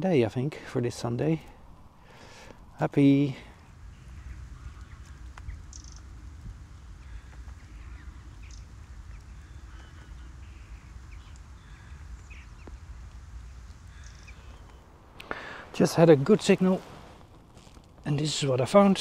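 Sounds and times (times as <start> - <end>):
low steady rumble: 1.1 - 18.1
birds calling: 1.6 - 17.0.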